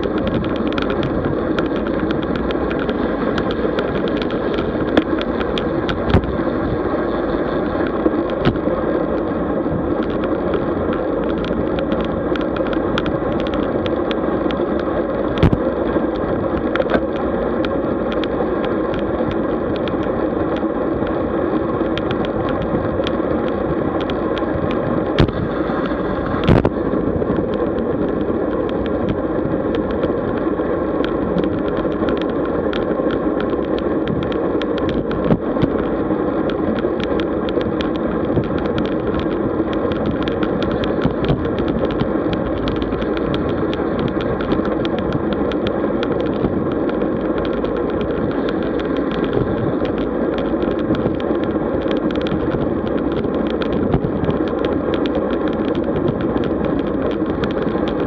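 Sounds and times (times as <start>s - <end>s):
small ticks and rattles: 0.0s - 6.9s, 9.9s - 58.0s
wind and road noise: 0.0s - 58.0s.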